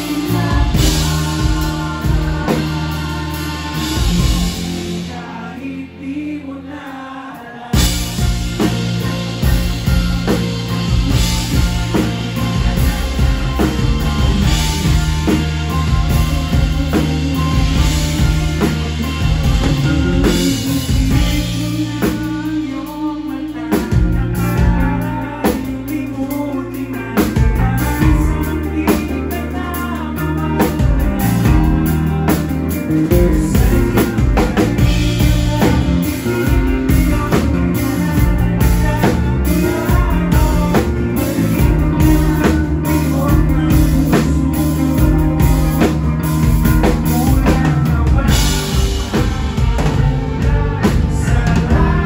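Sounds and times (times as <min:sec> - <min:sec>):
drum kit: 0:00.0 - 0:06.0, 0:07.6 - 0:52.0
acoustic and electric guitars: 0:00.0 - 0:52.0
bass guitar: 0:00.0 - 0:52.0
man singing lead vocals: 0:00.0 - 0:52.0.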